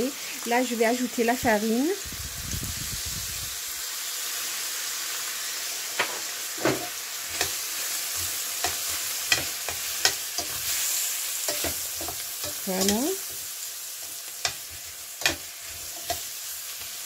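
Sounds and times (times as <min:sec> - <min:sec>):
meat and onions sizzling in a pot: 0:00.0 - 0:17.0.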